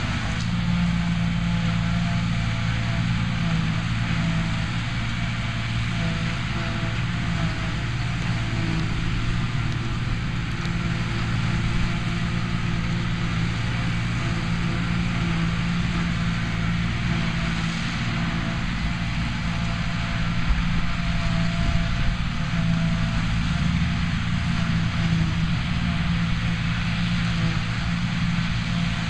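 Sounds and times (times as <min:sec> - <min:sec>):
forage harvester hiss: 0:00.0 - 0:29.0
tractor engine drone: 0:00.0 - 0:29.0.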